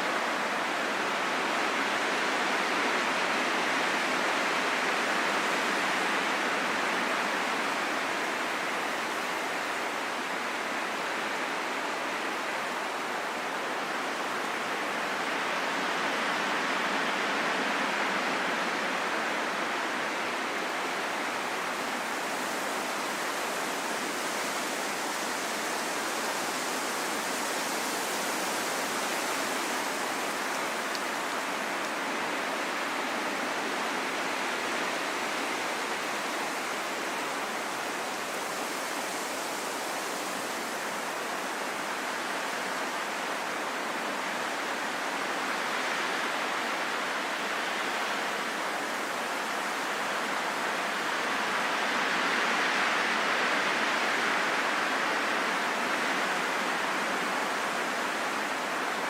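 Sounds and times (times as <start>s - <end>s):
calm steady wind: 0.0s - 59.0s.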